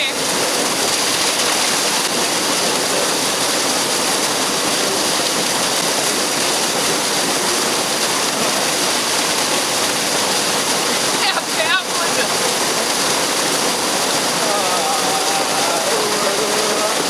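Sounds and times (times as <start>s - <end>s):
waterfall pouring into pool: 0.0s - 17.0s.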